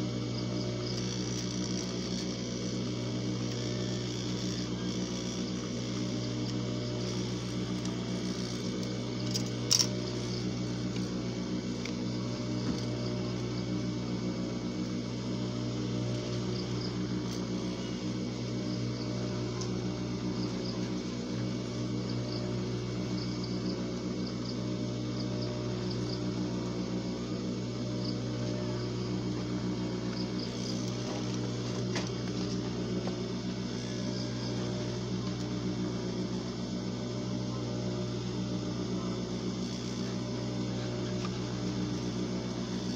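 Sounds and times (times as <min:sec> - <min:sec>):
sewing machine motor humming: 0:00.0 - 0:42.9.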